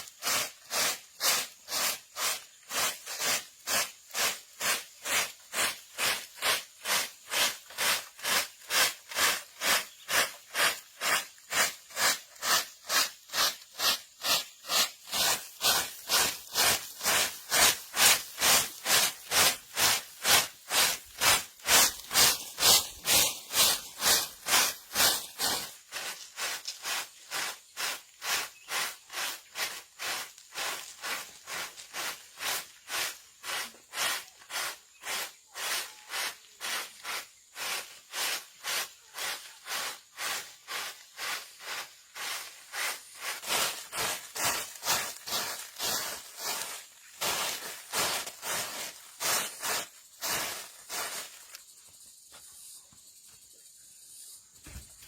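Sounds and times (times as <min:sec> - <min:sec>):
faint outdoor background: 0:00.0 - 0:55.0.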